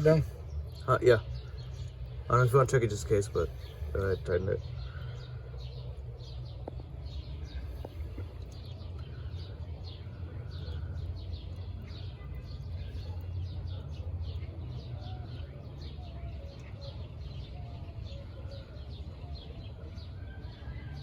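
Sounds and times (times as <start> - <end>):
steady low rumble: 0.0 - 20.2
small bird chirping: 0.0 - 21.0.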